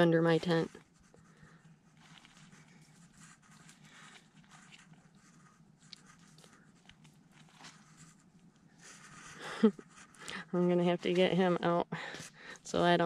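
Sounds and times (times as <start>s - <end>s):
faint rustles and clicks: 0.0s - 13.0s.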